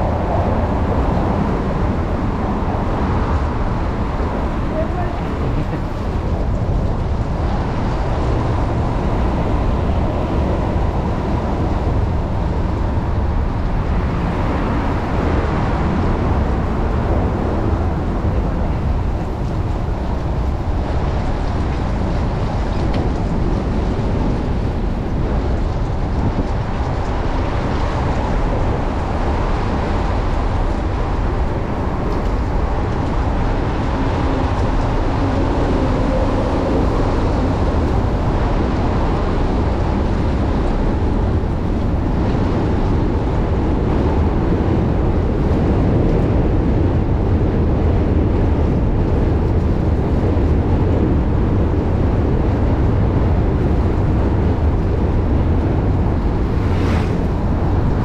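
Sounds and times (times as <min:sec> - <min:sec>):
tyre noise on wet road: 0:00.0 - 0:58.0
wind rush on microphone: 0:00.0 - 0:58.0.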